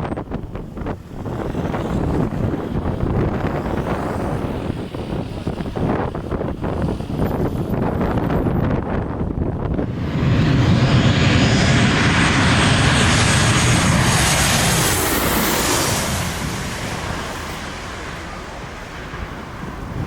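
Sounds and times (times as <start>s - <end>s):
airliner passing overhead: 0.0s - 20.0s.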